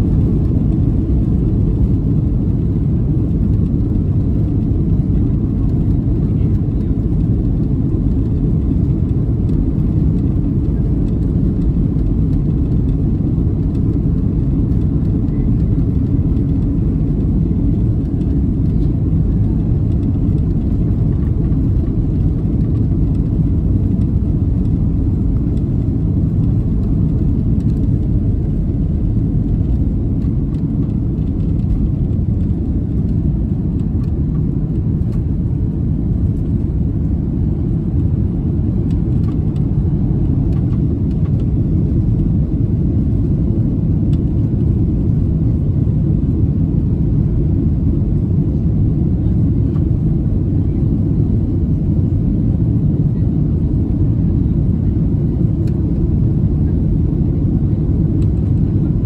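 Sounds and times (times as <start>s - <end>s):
runway rumble: 0.0s - 53.8s.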